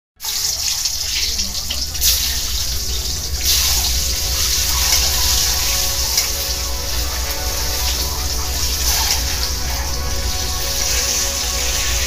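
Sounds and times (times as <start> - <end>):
eggs sizzling in hot oil: 0.2 - 12.0.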